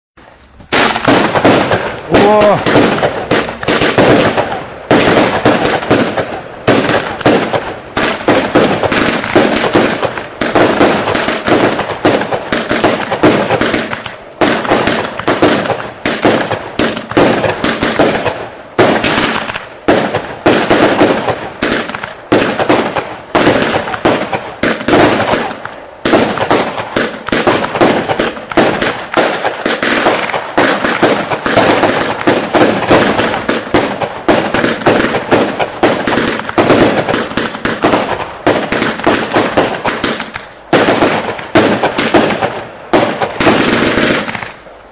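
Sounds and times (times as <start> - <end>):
fireworks volley of shots: 0.2 - 44.9.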